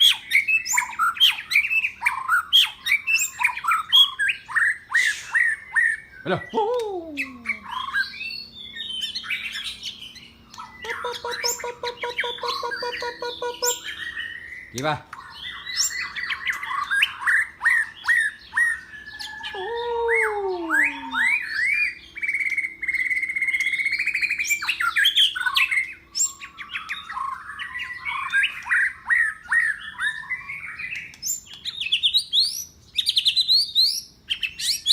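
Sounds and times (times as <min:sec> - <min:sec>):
bird singing varied song: 0:00.0 - 0:34.9.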